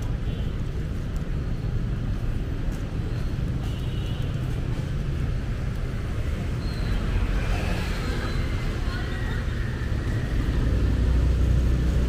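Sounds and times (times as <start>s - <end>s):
city traffic rumble: 0.0s - 12.0s
tyres on wet road: 0.0s - 12.0s.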